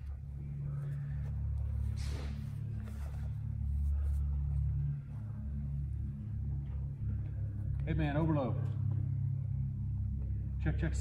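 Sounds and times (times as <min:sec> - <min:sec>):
low hum in hall: 0:00.0 - 0:11.0.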